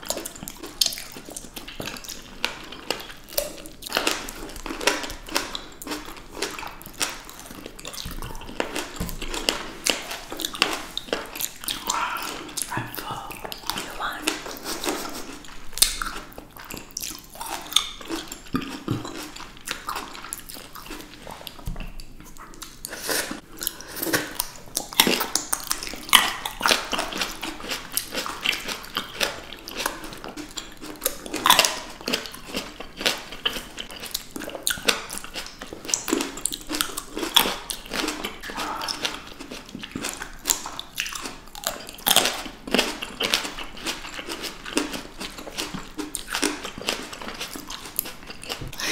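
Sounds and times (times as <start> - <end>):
wet chewing of juicy fruit: 0.0 - 48.9.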